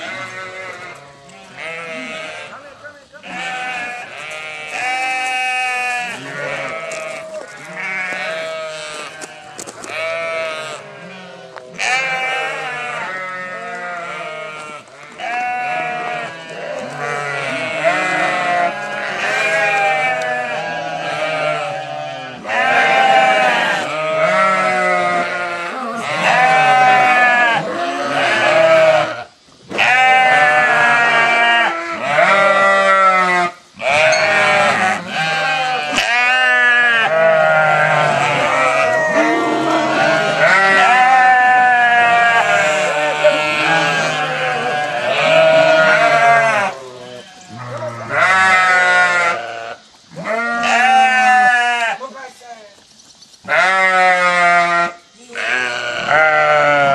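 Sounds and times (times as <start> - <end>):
sheep bleating: 0.0 - 52.1, 53.5 - 56.9.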